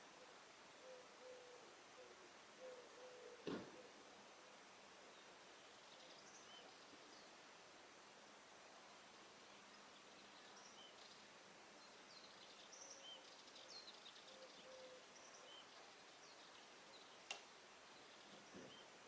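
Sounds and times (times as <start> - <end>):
sparrows chirping faintly: 0.0 - 19.0.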